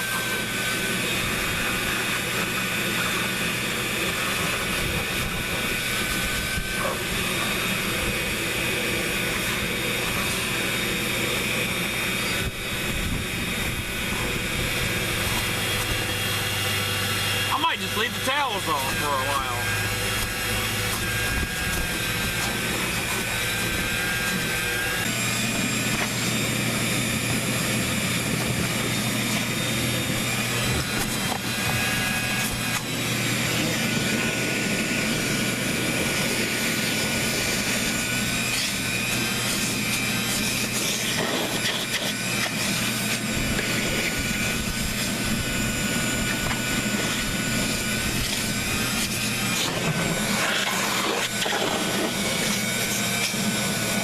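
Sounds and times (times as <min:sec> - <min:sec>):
high wavering whine: 0:00.0 - 0:54.0
machine running with rushing noise: 0:00.0 - 0:54.0.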